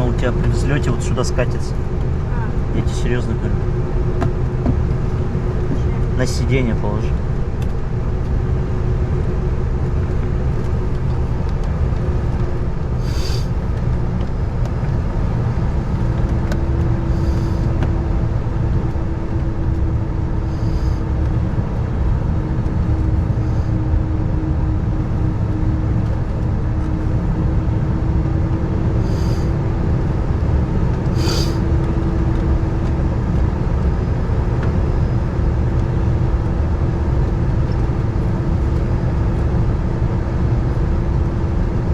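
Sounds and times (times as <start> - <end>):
jet engine and airframe rumble: 0.0 - 41.9
steady cabin hum: 0.0 - 41.9.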